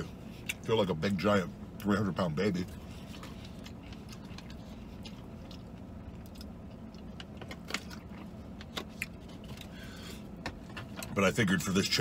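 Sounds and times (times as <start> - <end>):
vehicle cab rumble: 0.0 - 12.0.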